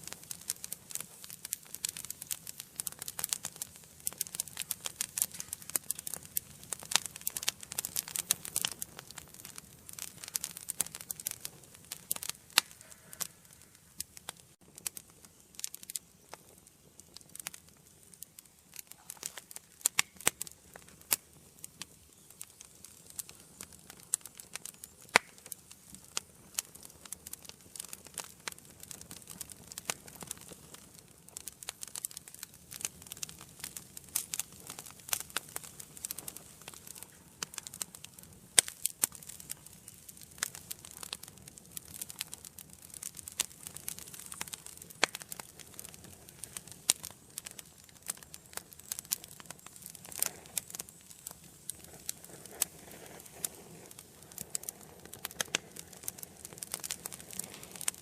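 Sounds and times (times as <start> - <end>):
low steady hiss: 0.0 - 58.0
wood fire crackling and popping: 0.0 - 58.0.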